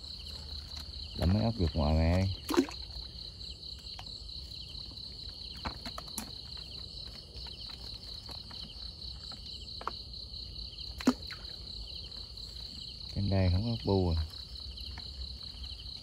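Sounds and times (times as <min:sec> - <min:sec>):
night insects trilling: 0:00.0 - 0:16.0.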